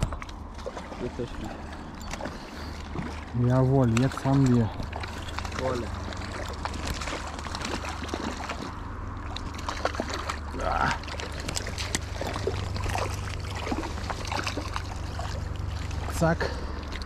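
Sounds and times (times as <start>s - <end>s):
fish splashing at water surface: 0.0s - 17.0s
water sloshing: 0.0s - 17.0s.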